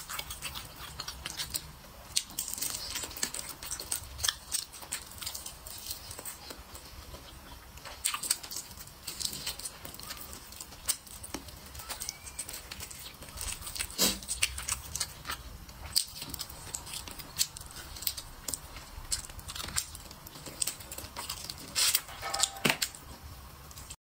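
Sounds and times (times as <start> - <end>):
chewing and lip smacking: 0.0 - 22.9.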